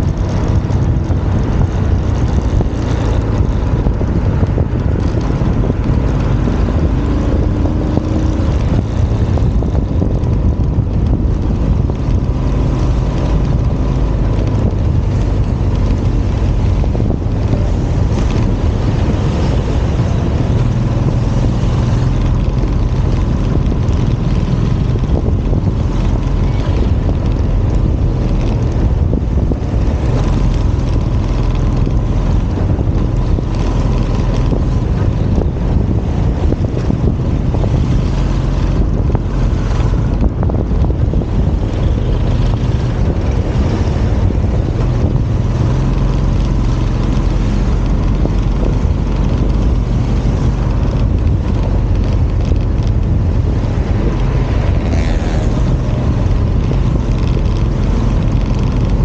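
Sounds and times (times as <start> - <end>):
tyre noise: 0.0 - 59.0
vehicle engine running: 0.0 - 59.0
wind buffeting microphone: 0.0 - 59.0.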